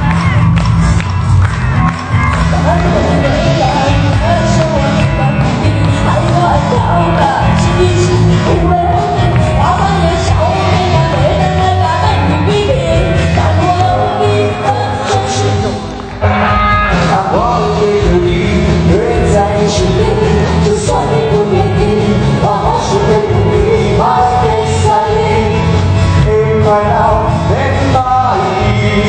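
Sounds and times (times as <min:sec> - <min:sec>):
live band playing pop song: 0:00.0 - 0:29.0
person singing: 0:01.7 - 0:29.0.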